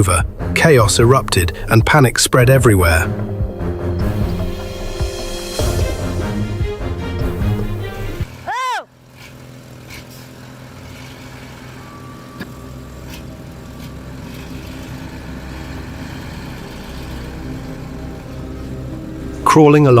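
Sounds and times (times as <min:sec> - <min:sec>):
music: 0:00.0 - 0:08.4, 0:12.0 - 0:20.0
heavy truck engine running: 0:00.0 - 0:20.0.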